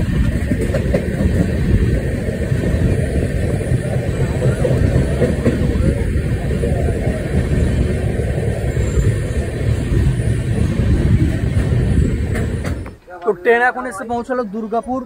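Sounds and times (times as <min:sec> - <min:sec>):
train rumbling on rails: 0:00.0 - 0:14.9.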